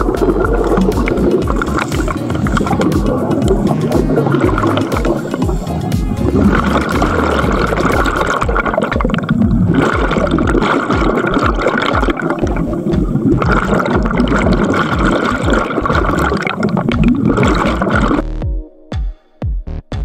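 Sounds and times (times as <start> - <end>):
underwater bubbling and gurgling: 0.0 - 18.2
electronic tones: 0.0 - 18.4.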